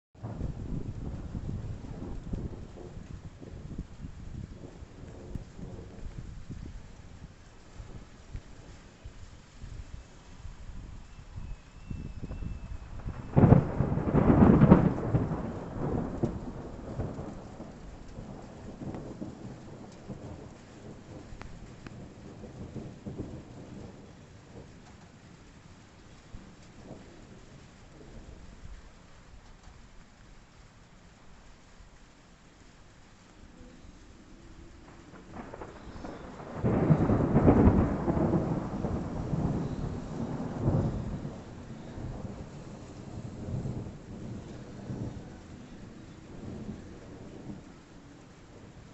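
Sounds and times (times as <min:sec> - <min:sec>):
thunder clap and rumble: 0:00.2 - 0:29.7, 0:33.6 - 0:48.9
steady rain: 0:00.2 - 0:48.9.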